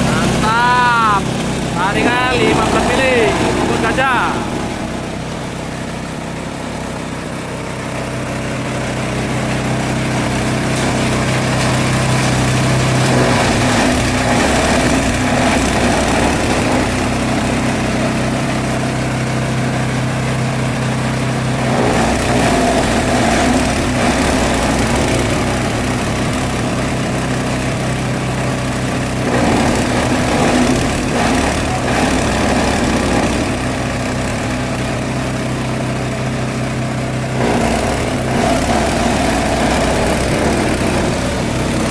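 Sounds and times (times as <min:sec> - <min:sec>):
engine hum: 0:00.0 - 0:41.9
grinder chopping grass: 0:00.0 - 0:41.9.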